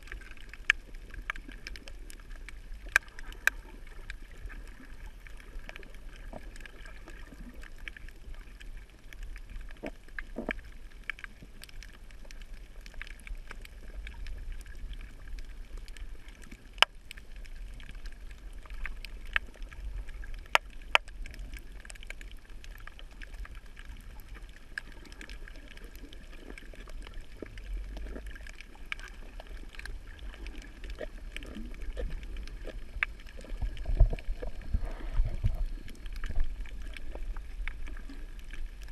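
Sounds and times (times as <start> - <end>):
low underwater rumble: 0.0 - 38.9
underwater clicks and crackles: 0.0 - 38.9.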